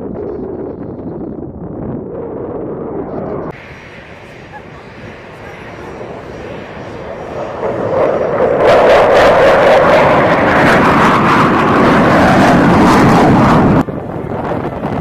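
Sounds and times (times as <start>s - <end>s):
aircraft roaring past low: 1.6s - 15.0s.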